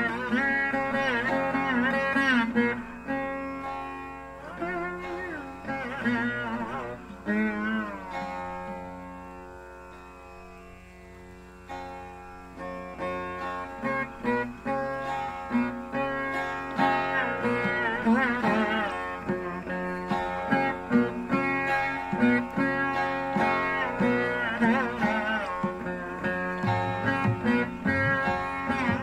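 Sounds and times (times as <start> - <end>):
plucked string instrument: 0.0 - 29.0
steady drone: 0.0 - 29.0.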